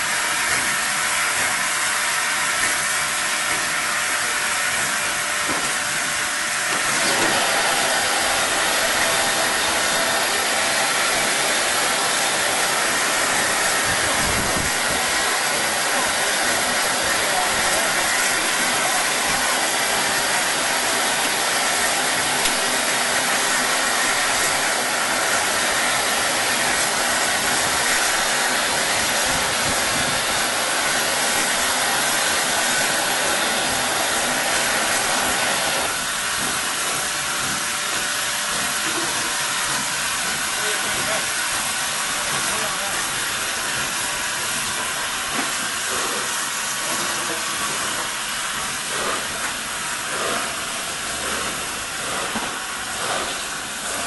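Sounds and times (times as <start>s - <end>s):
steam hissing from locomotive: 0.0s - 54.0s.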